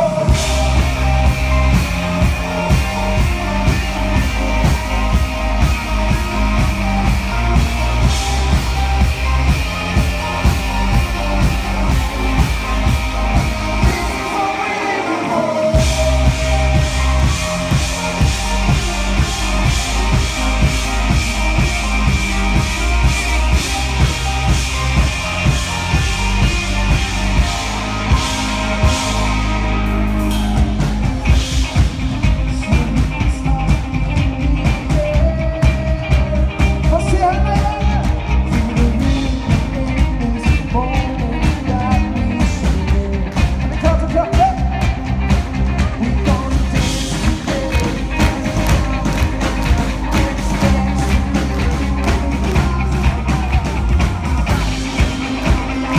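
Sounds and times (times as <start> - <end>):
drum kit: 0.0 - 55.9
live rock band playing: 0.0 - 55.9
man singing: 0.0 - 55.9.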